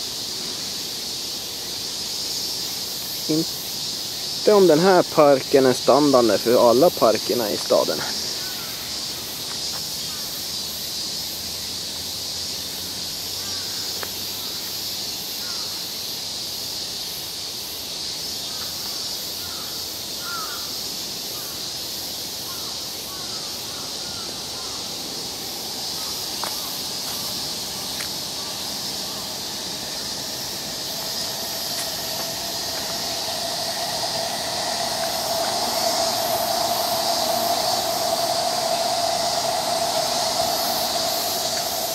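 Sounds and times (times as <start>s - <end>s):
cicadas buzzing: 0.0s - 41.9s.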